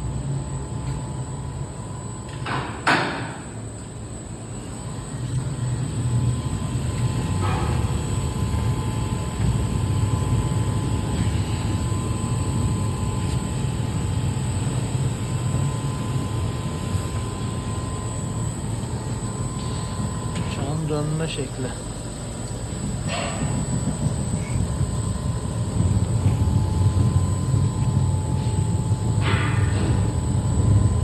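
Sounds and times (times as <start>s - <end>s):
faint machine whine: 0.0s - 31.0s.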